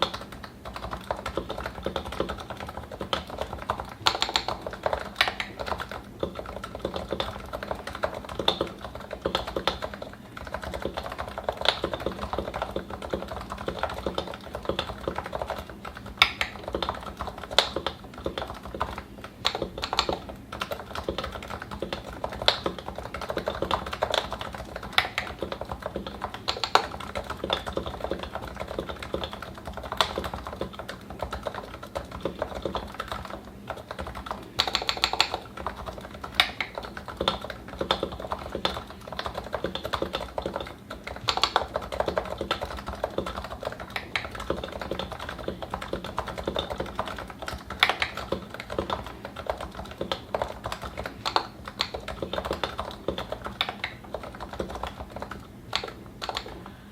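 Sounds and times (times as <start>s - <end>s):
keyboard typing: 0.0s - 56.9s.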